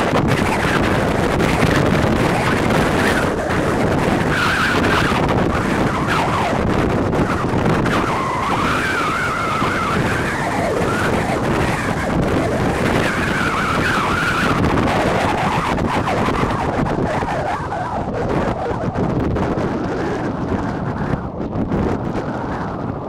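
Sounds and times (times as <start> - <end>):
steady loud noise: 0.0 - 23.0
wind on microphone: 0.0 - 23.0.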